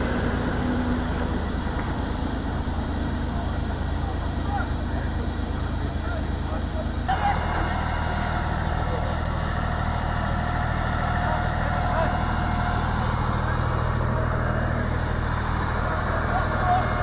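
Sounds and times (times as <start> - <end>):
fire engine pump motor droning: 0.0 - 17.0.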